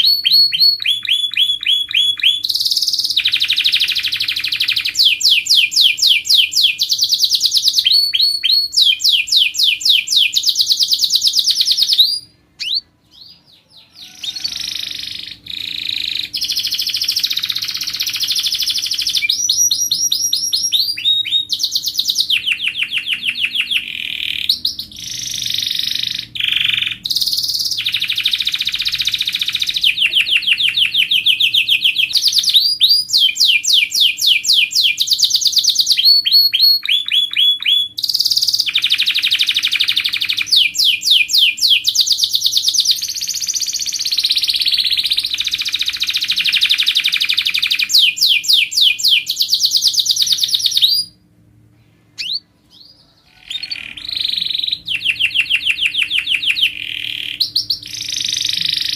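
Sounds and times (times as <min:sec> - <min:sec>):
canary singing fast trills: 0:00.0 - 0:51.2, 0:52.2 - 0:58.9.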